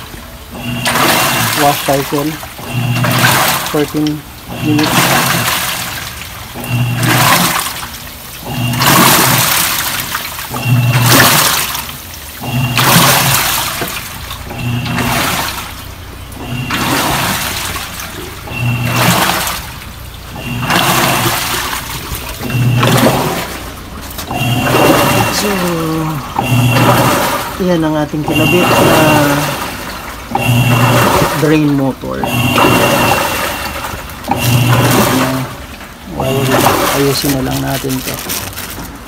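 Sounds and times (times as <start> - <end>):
washing machine motor humming: 0.0 - 39.0
water swishing in tub: 0.0 - 39.0.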